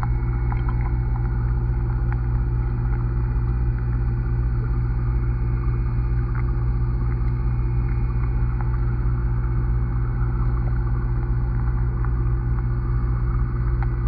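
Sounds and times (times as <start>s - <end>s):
low underwater hum and rumble: 0.0s - 14.0s.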